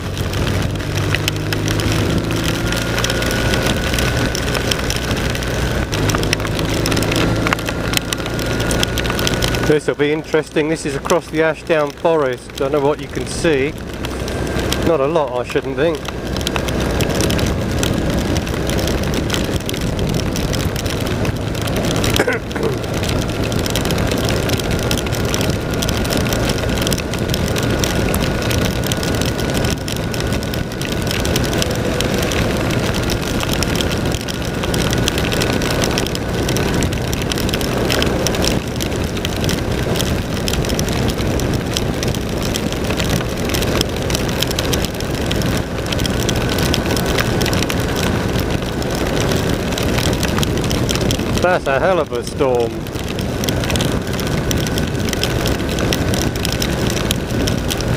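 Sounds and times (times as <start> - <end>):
motorcycle engine running: 0.0 - 57.9
rain on rider: 0.0 - 57.9.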